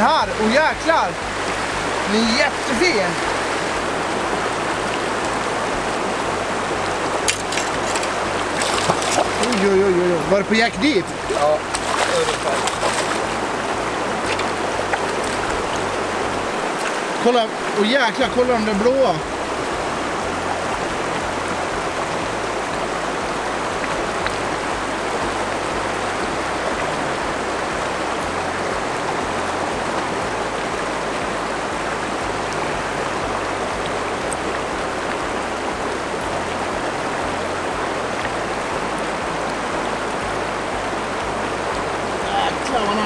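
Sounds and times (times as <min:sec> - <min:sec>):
river rapids rushing over rocks: 0:00.0 - 0:43.0.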